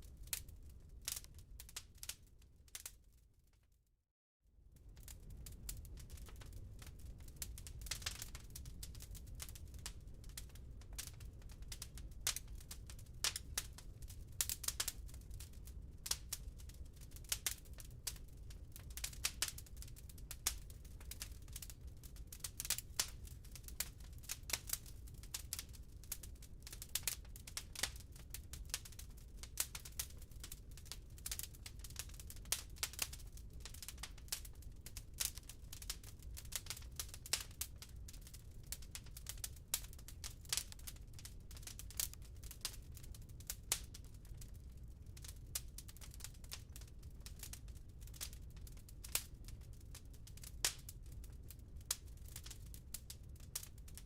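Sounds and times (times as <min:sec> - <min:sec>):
wood fire crackling and popping: 0:00.0 - 0:03.2, 0:04.8 - 0:54.0.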